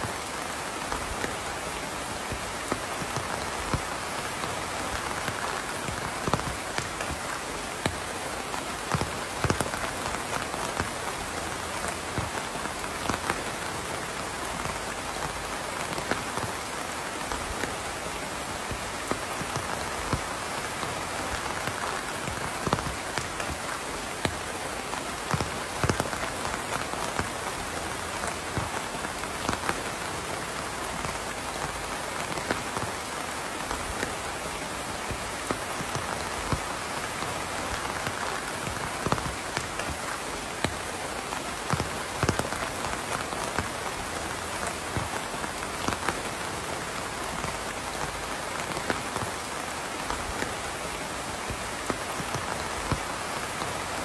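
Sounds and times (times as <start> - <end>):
raindrops landing close by: 0.0 - 54.0
steady rain hiss: 0.0 - 54.0.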